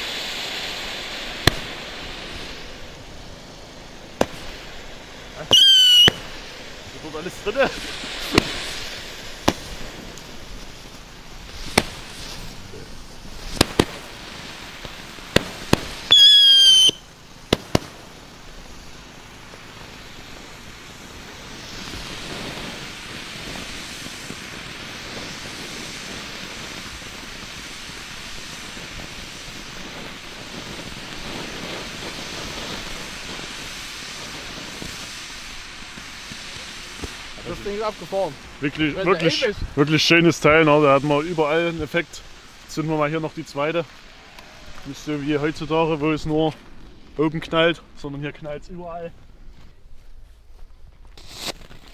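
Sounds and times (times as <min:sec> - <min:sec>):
firework whistle: 0:00.0 - 0:45.7, 0:51.1 - 0:51.9
firework bangs: 0:00.0 - 0:49.4, 0:51.0 - 0:51.9
firework fountain hissing: 0:00.0 - 0:51.9.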